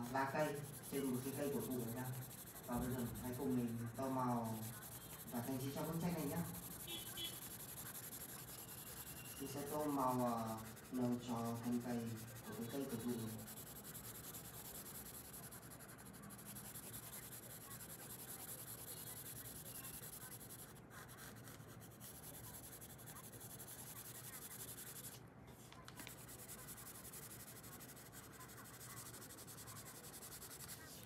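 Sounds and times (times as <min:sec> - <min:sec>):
pencil scratching on paper: 0:00.0 - 0:31.0.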